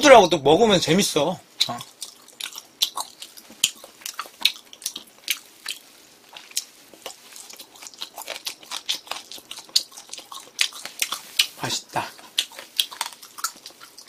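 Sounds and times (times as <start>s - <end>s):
close chewing with wet mouth smacks: 1.6s - 14.0s.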